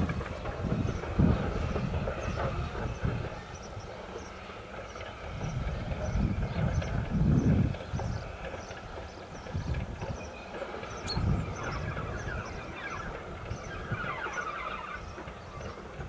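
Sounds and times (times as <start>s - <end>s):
birds singing: 0.0s - 16.0s
distant steam locomotive rumble: 0.0s - 16.0s.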